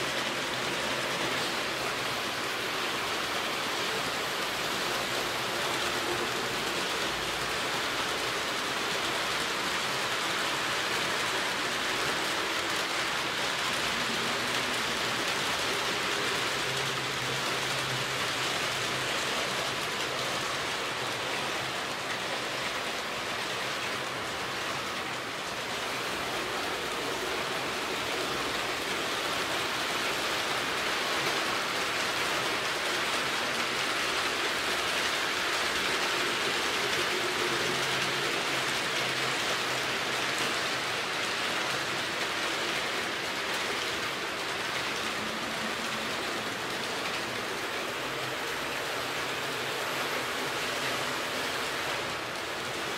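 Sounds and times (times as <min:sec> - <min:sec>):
model train wheels rattling: 0:00.0 - 0:52.9.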